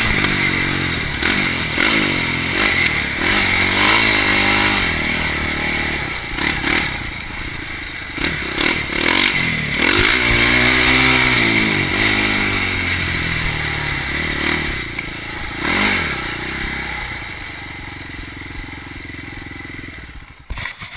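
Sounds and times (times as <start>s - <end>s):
quad bike engine revving: 0.0s - 20.9s.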